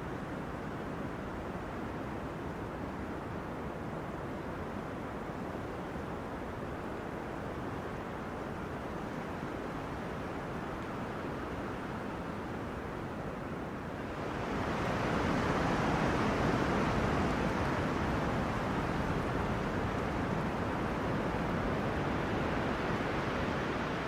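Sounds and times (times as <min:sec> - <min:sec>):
wind through tree crowns: 0:00.0 - 0:24.0.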